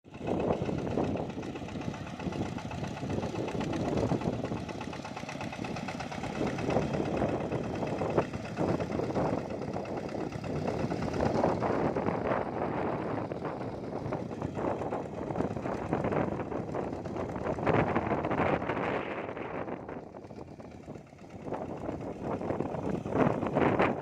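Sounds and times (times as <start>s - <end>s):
diesel engine running roughly: 0.1s - 24.0s.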